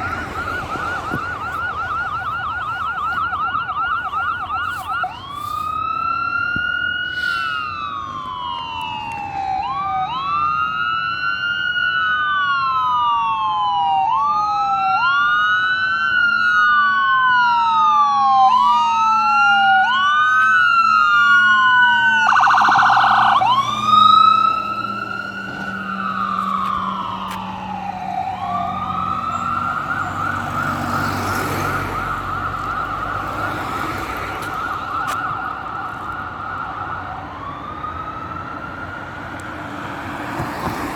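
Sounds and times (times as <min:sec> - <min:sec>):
fire engine siren wailing: 0:00.0 - 0:40.9.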